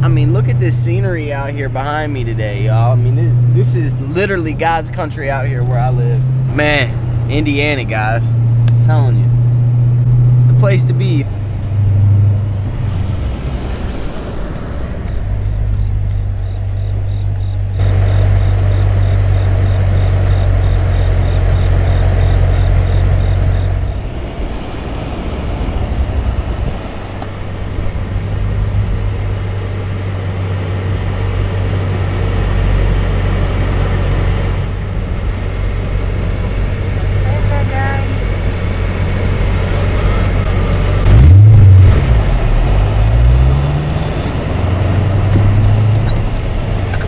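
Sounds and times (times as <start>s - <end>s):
road vehicle rumble: 0.0s - 47.0s
tyre and road noise: 0.0s - 47.0s.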